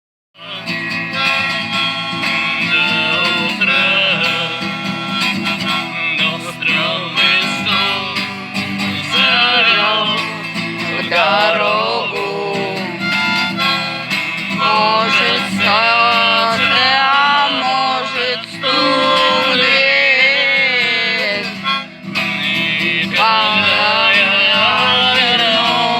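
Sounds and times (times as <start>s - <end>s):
acoustic guitar accompaniment: 0.4s - 25.9s
wavering melody line: 1.2s - 25.9s.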